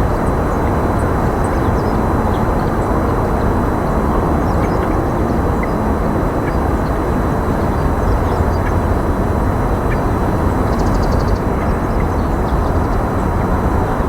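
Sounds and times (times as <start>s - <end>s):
low outdoor rumbling: 0.0s - 14.0s.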